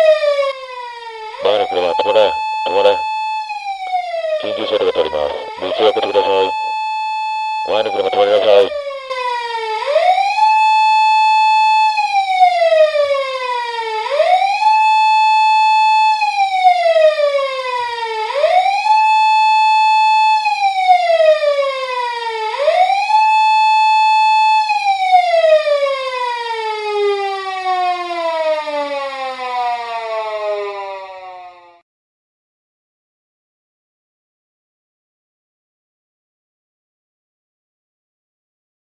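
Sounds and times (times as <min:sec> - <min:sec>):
police siren wailing: 0:00.0 - 0:31.8.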